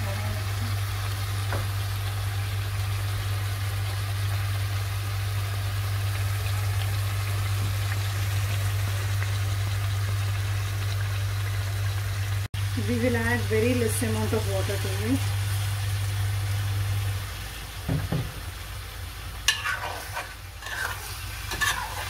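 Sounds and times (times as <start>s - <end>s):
chicken sizzling in pan: 0.0s - 22.0s.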